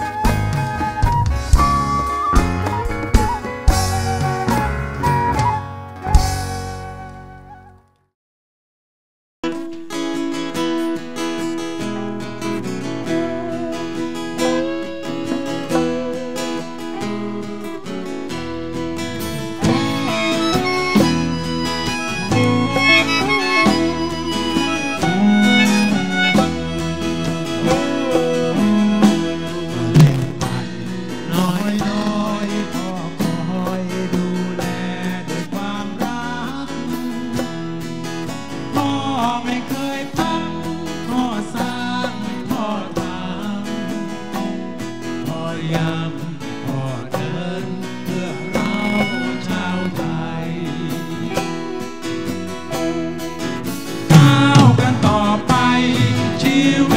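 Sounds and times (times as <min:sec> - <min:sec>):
band music with guitar: 0:00.0 - 0:08.0, 0:09.4 - 0:56.9.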